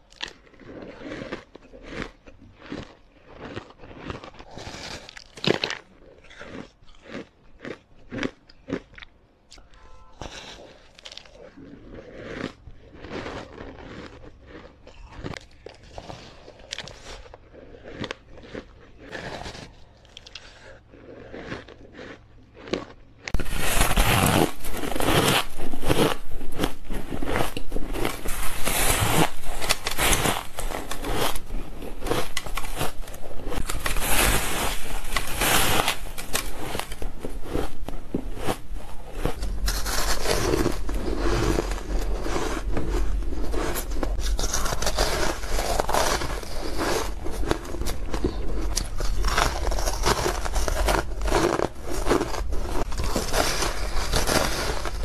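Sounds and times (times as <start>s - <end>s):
chewing crunchy ice: 0.0s - 55.0s.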